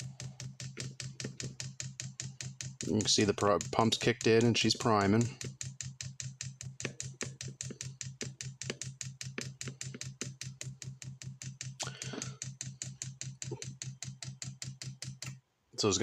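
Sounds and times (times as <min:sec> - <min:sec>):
fuel pump ticking: 0:00.0 - 0:15.4
steady low hum: 0:00.0 - 0:16.0.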